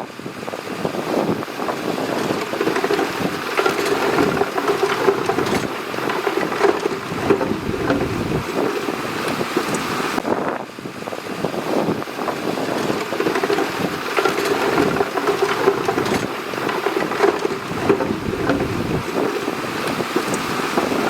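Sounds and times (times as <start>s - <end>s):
bulldozer diesel engine running: 0.1s - 10.2s, 11.6s - 21.0s.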